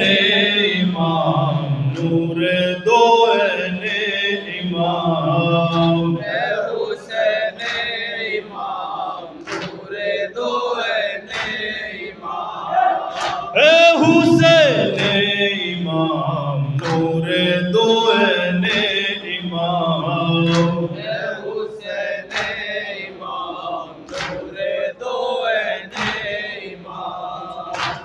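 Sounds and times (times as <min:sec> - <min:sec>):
man chanting into a microphone: 0:00.0 - 0:08.4, 0:13.5 - 0:28.0
men singing in chorus: 0:00.0 - 0:28.0.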